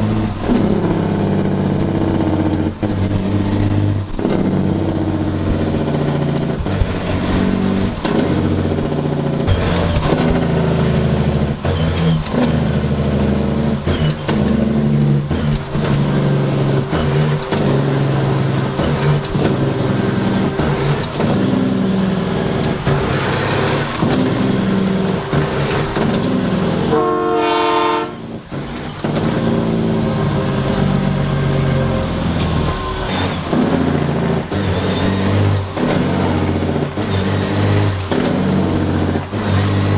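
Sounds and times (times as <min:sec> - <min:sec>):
diesel truck engines revving: 0:00.0 - 0:39.9
truck horn: 0:00.0 - 0:39.9.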